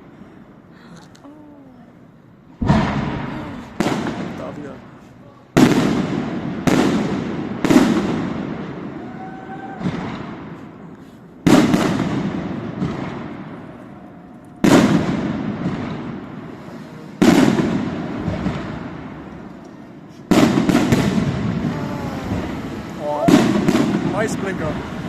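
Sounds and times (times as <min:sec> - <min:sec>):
firework bangs with rolling echo: 0:02.5 - 0:25.0.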